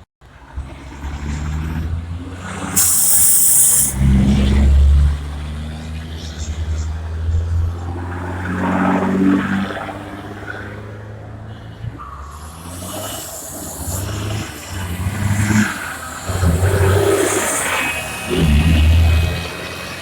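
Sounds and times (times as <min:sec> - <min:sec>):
vehicle engines revving: 0:00.2 - 0:20.0.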